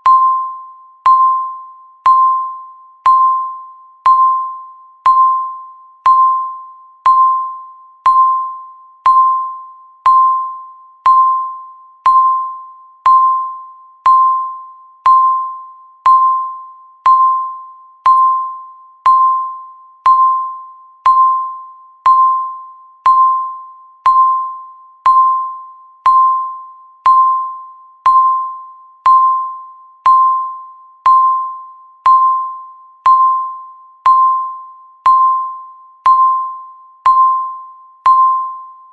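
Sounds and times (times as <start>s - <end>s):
timer beeping: 0.0s - 38.9s.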